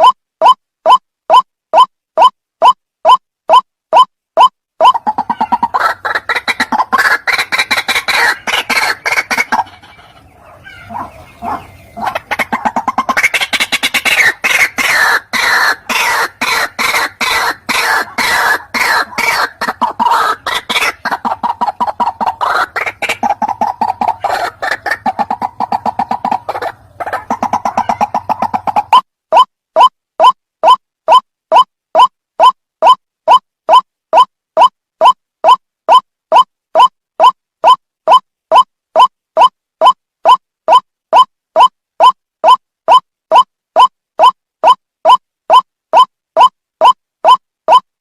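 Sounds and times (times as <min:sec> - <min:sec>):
bird harsh repeated calls: 0:00.0 - 0:47.8.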